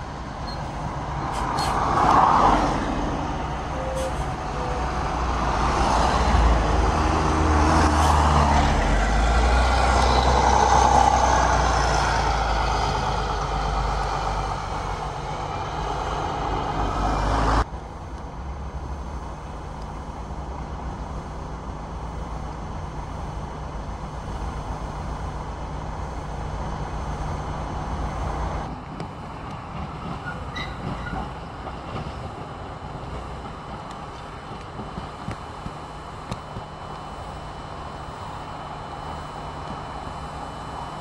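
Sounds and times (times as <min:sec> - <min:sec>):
diesel bus driving past: 0:00.0 - 0:41.0
traffic noise: 0:00.0 - 0:41.0.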